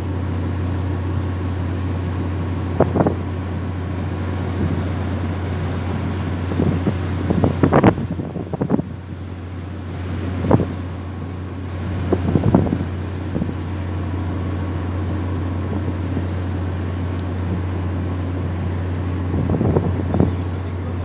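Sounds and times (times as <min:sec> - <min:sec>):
low ship machinery hum: 0:00.0 - 0:21.0
wind buffeting microphone: 0:02.0 - 0:21.0.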